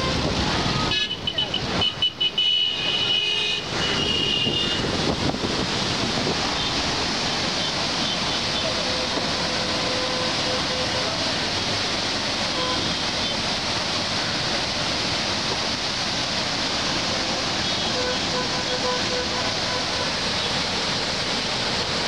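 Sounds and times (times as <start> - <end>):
water rushing over stepped drop: 0.0 - 22.0.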